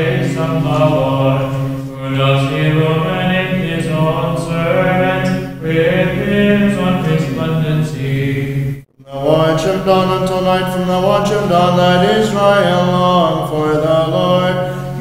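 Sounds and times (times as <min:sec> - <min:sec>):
low held vocal drone: 0:00.0 - 0:15.0
voices chanting: 0:00.0 - 0:15.0.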